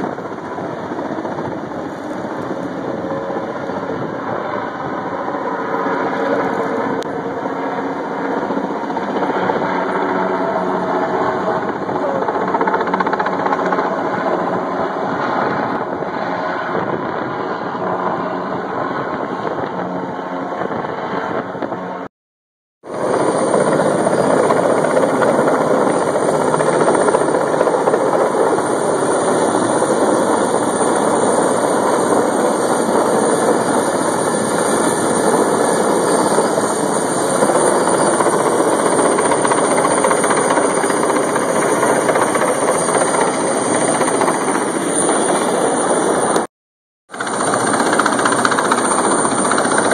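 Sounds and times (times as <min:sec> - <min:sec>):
helicopter rotor and engine din: 0:00.0 - 0:22.1, 0:22.8 - 0:46.5, 0:47.1 - 0:49.9.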